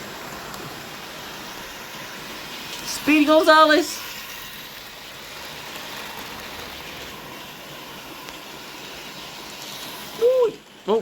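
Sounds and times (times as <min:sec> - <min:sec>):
model train rushing hiss: 0:00.0 - 0:11.0.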